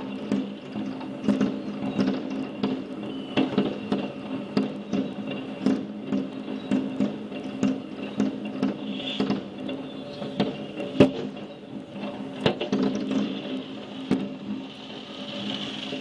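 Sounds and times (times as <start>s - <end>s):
fireworks banging and cracking: 0.0s - 16.0s.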